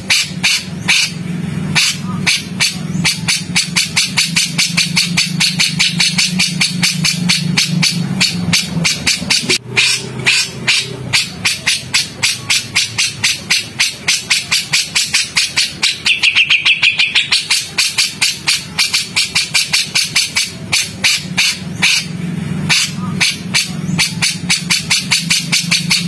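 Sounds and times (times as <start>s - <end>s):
songbird harsh chattering: 0.0s - 26.0s.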